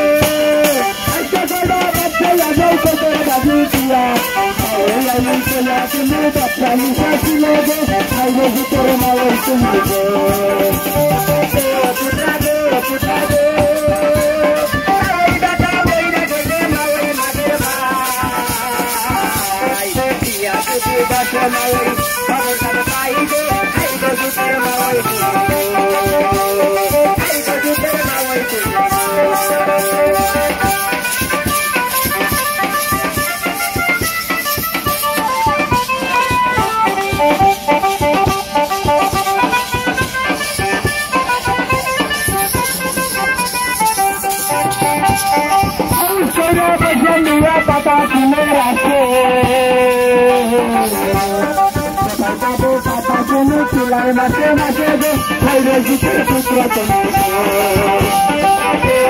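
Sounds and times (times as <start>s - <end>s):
drum and cymbals beat: 0.0s - 59.0s
rattling percussion: 0.0s - 59.0s.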